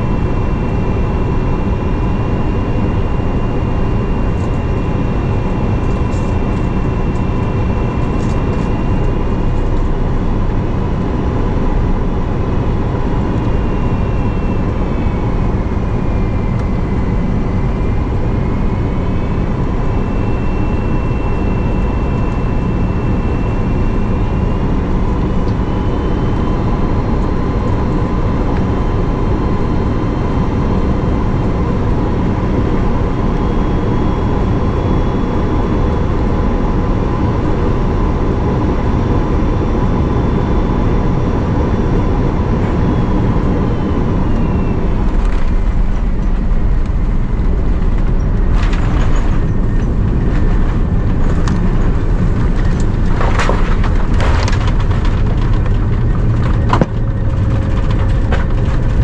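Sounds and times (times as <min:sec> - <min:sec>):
airplane cabin airflow and engine hum: 0:00.0 - 0:59.0
high engine whine: 0:00.0 - 0:59.0.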